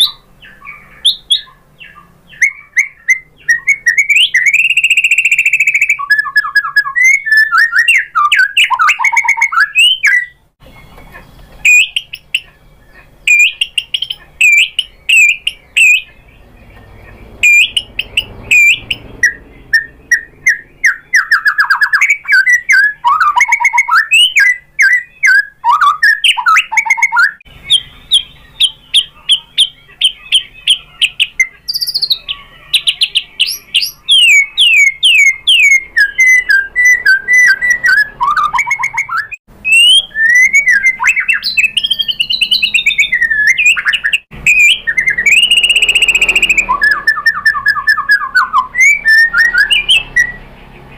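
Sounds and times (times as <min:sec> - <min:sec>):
bird singing whistles and chirps: 0:00.0 - 0:50.5.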